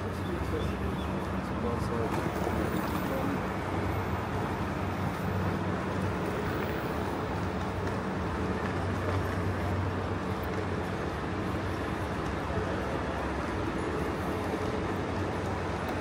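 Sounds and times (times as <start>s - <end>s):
city traffic noise: 0.0s - 16.0s.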